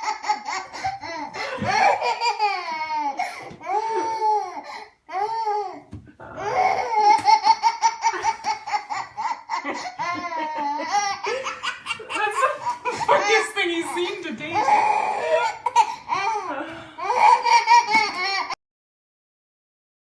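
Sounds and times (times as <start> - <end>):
baby laughing hysterically: 0.0 - 4.6, 6.4 - 18.6.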